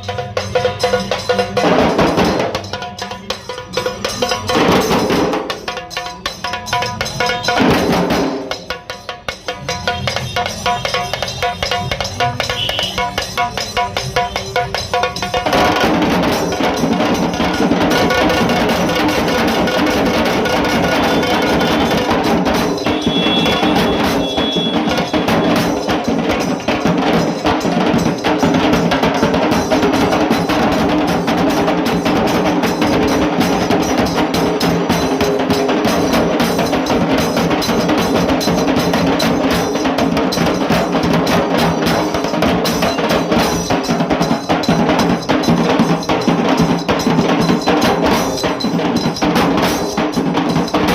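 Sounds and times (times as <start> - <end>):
barrel drums beating: 0.0 - 50.9
sharp drums beating fast rhythm: 0.0 - 50.9.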